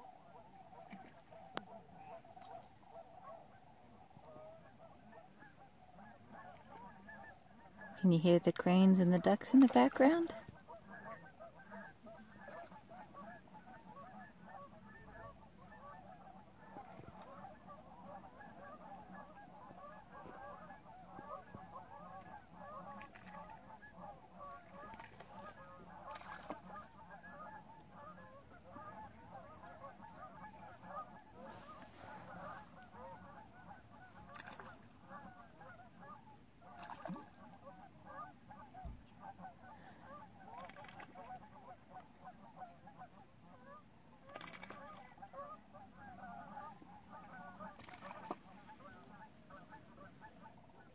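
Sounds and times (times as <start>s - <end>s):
ducks calling: 0.7s - 43.0s, 43.7s - 50.9s.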